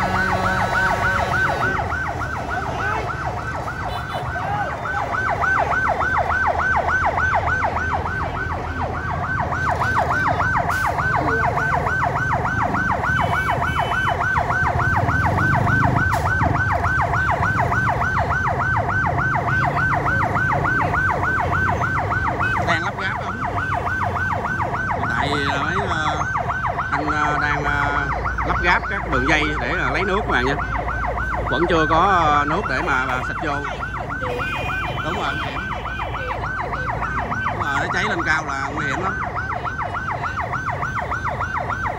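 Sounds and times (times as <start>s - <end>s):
fire truck siren yelping: 0.0s - 41.9s.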